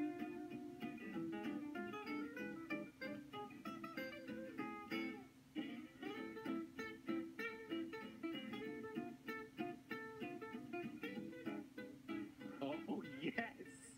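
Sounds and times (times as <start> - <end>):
acoustic guitar picking: 0.0 - 13.4.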